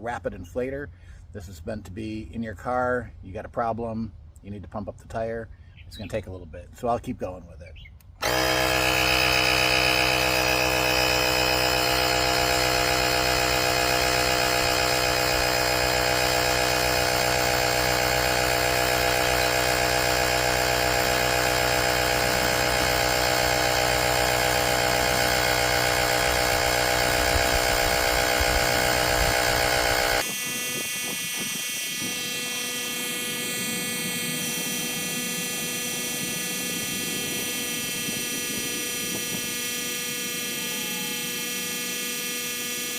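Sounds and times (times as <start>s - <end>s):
electric tire inflator compressor running: 8.1s - 42.9s.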